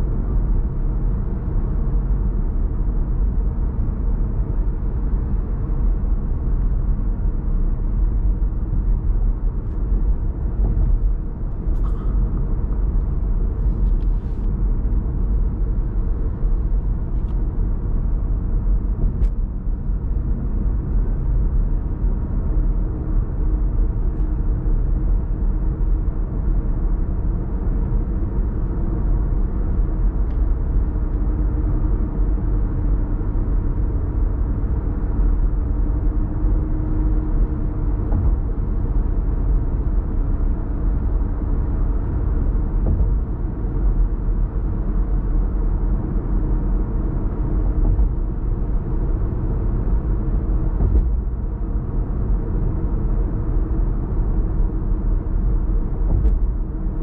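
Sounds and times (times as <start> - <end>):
car cruising rumble: 0.0 - 57.0.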